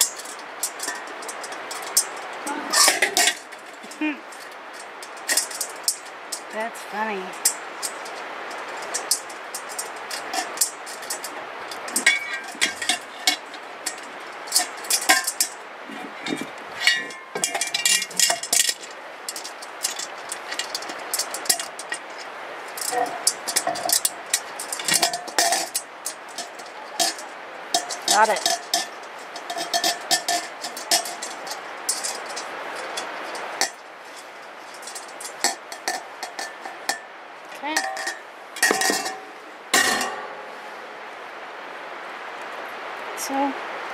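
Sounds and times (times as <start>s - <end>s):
metal grill parts clinking: 0.0s - 40.5s
metallic ringing: 0.0s - 40.9s
steady hiss: 0.0s - 43.9s.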